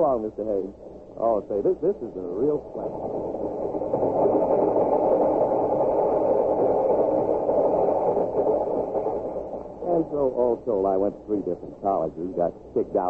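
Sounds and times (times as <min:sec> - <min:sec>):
train rumbling and clattering: 0:01.2 - 0:13.0.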